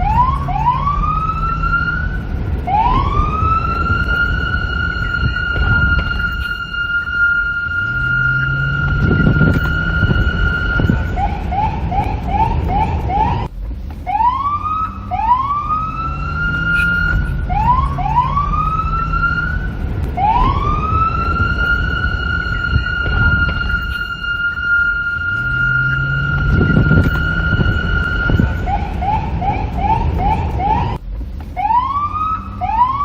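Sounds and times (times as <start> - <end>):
low rumble: 0.0 - 31.9
police siren: 0.0 - 33.0.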